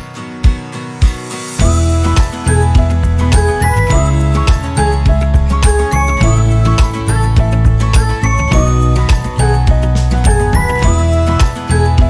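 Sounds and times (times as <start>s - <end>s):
upbeat music with bell-like melody: 1.5s - 12.0s.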